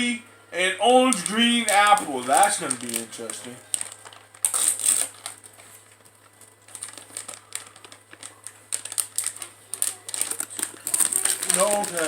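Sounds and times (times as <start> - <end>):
plastic package crinkling: 0.8 - 12.0.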